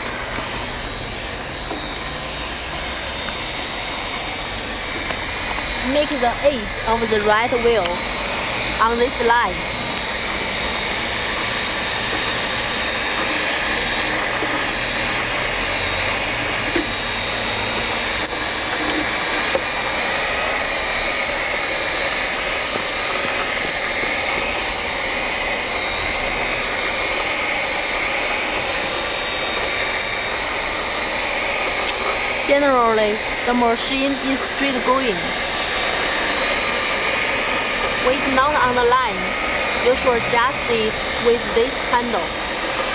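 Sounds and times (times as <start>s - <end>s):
heat gun blower rushing: 0.0s - 42.9s
high whine: 0.0s - 42.9s.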